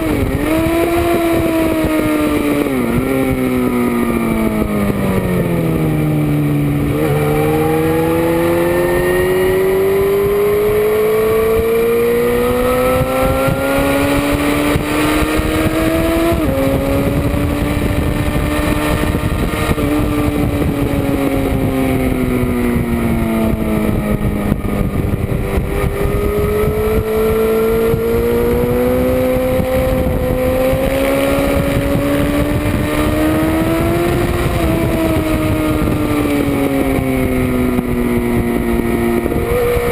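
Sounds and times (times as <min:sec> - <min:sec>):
motorcycle engine racing: 0:00.0 - 0:39.9
wind noise: 0:00.0 - 0:39.9.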